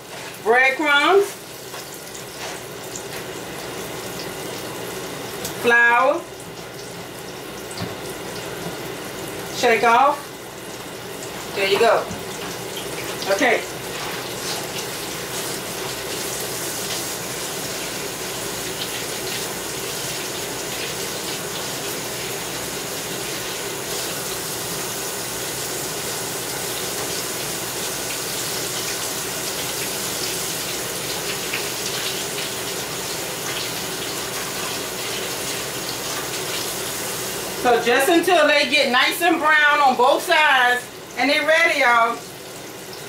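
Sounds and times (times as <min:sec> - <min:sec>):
tomato slices frying in grease: 0:00.0 - 0:43.0.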